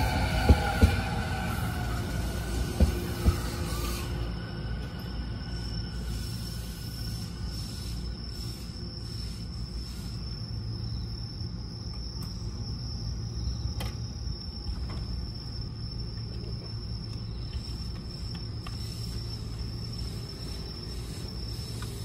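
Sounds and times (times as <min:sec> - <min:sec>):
crickets chirring: 0:00.0 - 0:22.0
low hum of electric train: 0:00.0 - 0:22.0.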